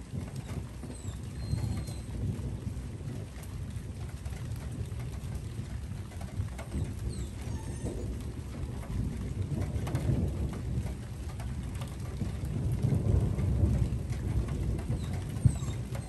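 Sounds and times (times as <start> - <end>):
low rumble of thunder: 0.0 - 16.0
rain falling: 0.0 - 16.0.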